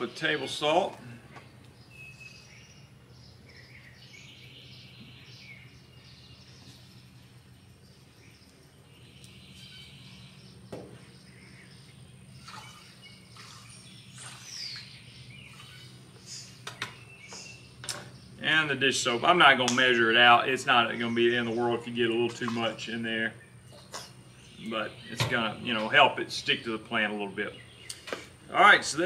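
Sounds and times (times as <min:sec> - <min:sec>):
birds chirping and singing: 0:00.0 - 0:29.0
steady low hum: 0:00.0 - 0:29.0.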